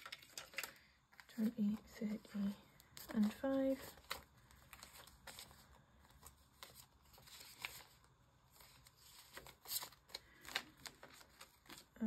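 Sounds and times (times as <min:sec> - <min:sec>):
banknotes rustling and flicking: 0:00.0 - 0:12.0.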